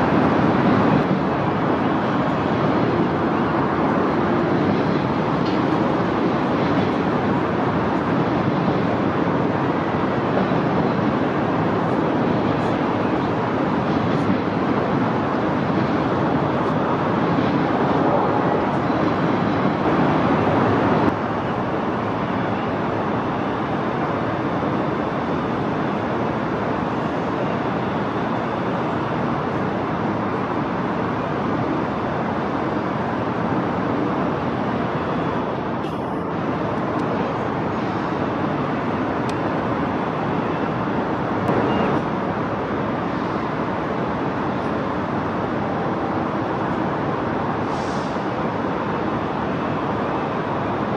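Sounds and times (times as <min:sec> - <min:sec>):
city traffic rumble: 0:00.0 - 0:50.9.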